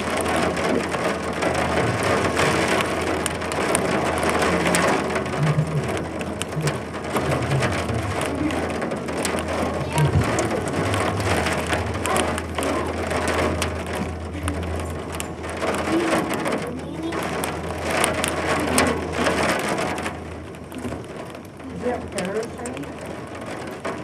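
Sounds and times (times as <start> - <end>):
heavy rain with hail drumming: 0.0 - 24.0
steady low hum: 0.0 - 24.0.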